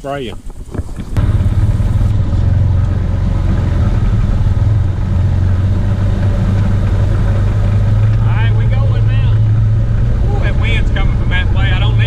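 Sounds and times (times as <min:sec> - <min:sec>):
engine running steadily: 0:01.1 - 0:12.0.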